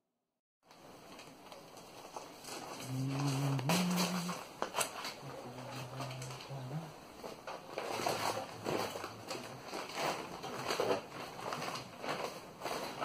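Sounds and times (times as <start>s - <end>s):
foil insulation rustling and crinkling: 0.7s - 13.0s.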